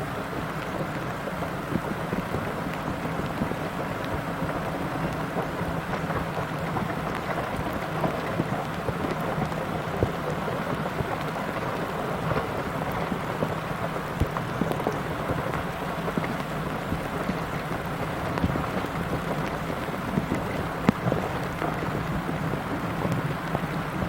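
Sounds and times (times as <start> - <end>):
rushing river water: 0.0 - 24.0
water splashes: 0.0 - 24.0.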